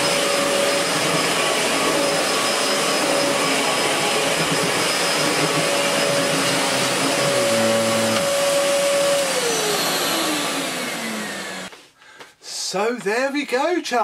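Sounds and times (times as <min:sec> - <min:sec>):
vacuum cleaner running: 0:00.0 - 0:11.8.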